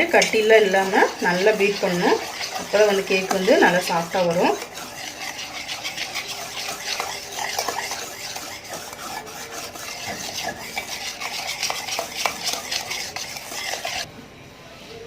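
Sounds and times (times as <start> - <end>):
utensil beating batter in bowl: 0.0 - 14.1.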